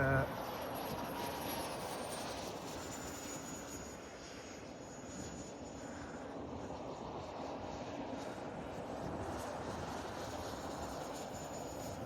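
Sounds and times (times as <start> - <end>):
ducted-fan model plane whine: 0.0 - 12.0.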